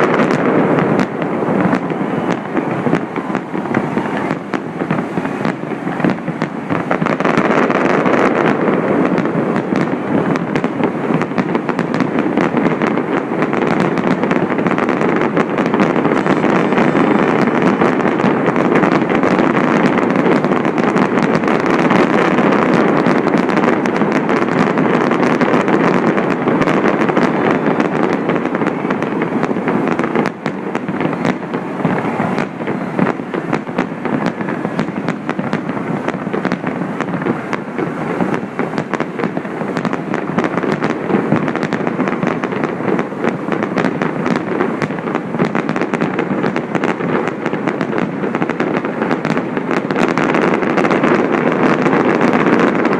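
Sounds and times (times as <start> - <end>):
fireworks bursting and crackling: 0.0 - 52.9
steady rushing noise: 0.0 - 52.9.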